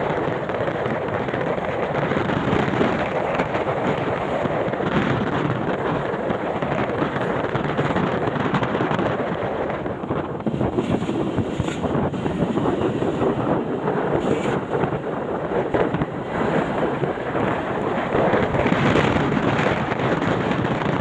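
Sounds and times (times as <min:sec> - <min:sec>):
heavy rain: 0:00.0 - 0:21.0
wind buffeting microphone: 0:00.0 - 0:21.0.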